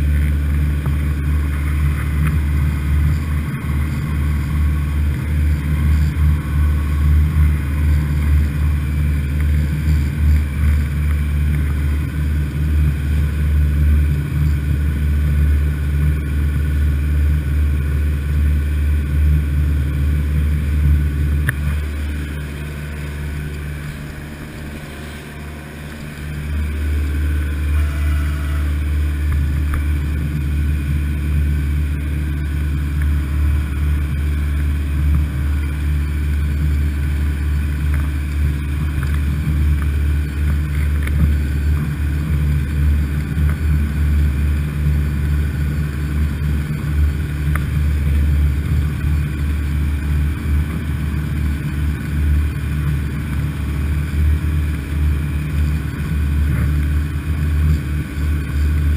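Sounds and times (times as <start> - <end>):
motorboat engine droning: 0.0 - 58.9
water rushing against hull: 0.0 - 58.9.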